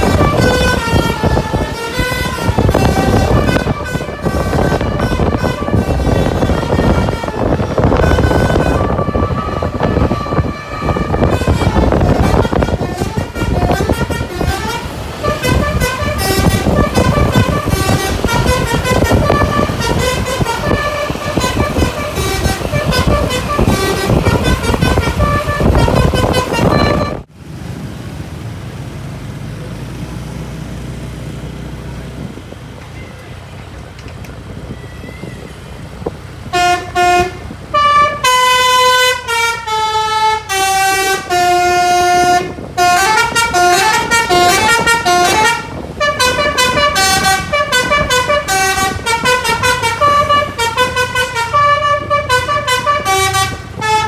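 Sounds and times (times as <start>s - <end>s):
multi-note bus horn melody: 0.0s - 27.3s, 36.4s - 54.0s
bus engine rumble: 0.0s - 54.0s.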